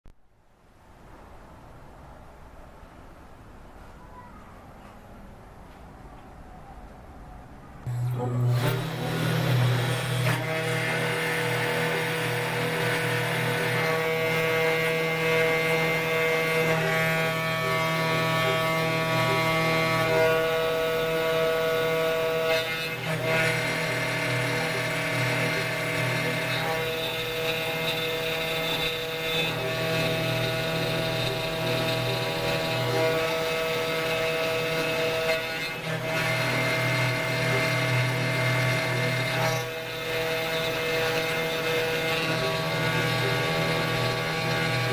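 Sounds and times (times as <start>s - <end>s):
router spindle whine milling: 7.8s - 44.9s.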